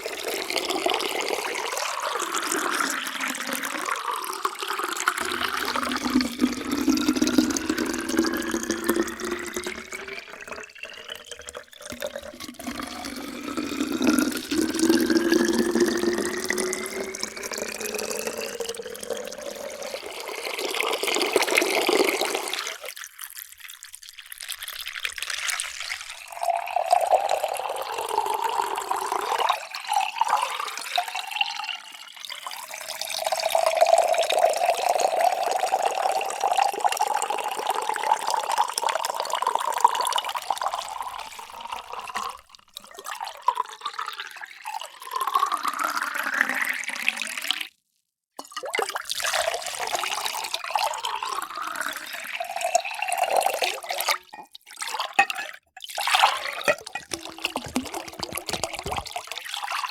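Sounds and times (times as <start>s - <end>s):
water pouring into containers: 0.0s - 59.9s.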